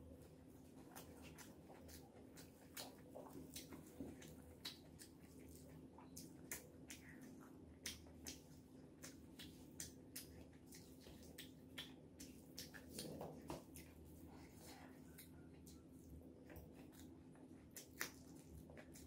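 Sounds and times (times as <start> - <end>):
faint steady hum: 0.0 - 19.0
person chewing: 0.2 - 19.0.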